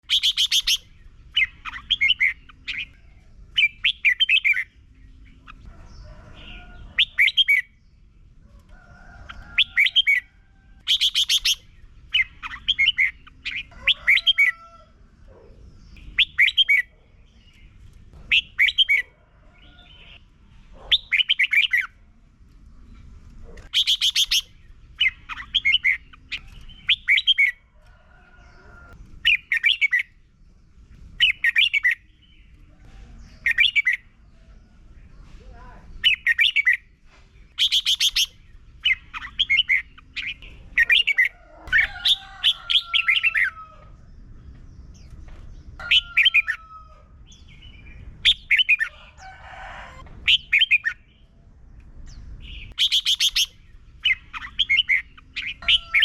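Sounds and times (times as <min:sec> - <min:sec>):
bird chattering song: 0:00.0 - 0:08.1, 0:09.3 - 0:14.6, 0:15.3 - 0:22.0, 0:23.0 - 0:27.6, 0:29.2 - 0:30.2, 0:30.9 - 0:43.6, 0:44.2 - 0:48.9, 0:50.2 - 0:51.3, 0:52.1 - 0:56.0.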